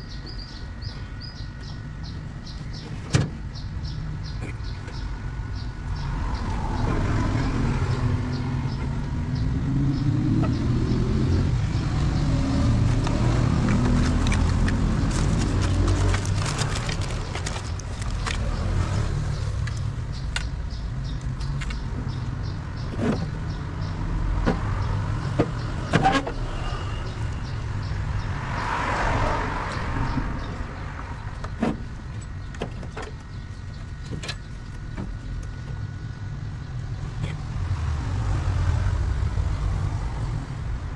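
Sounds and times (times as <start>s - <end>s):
engine rumbling: 0.0s - 40.9s.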